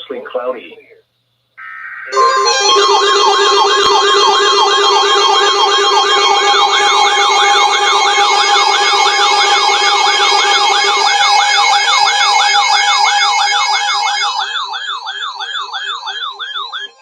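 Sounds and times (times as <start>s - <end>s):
electronic siren yelping: 1.6s - 17.0s
steady electronic tones: 1.6s - 17.0s.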